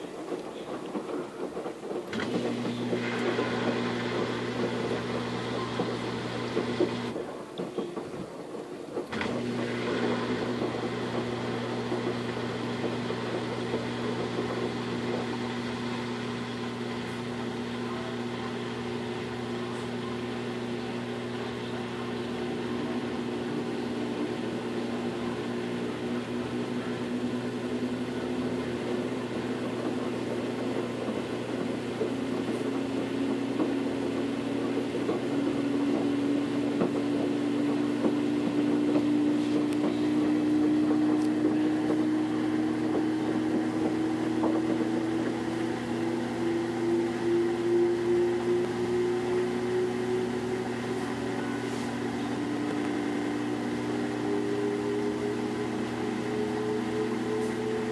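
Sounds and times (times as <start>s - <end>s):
washing machine motor hum: 0.0s - 57.9s.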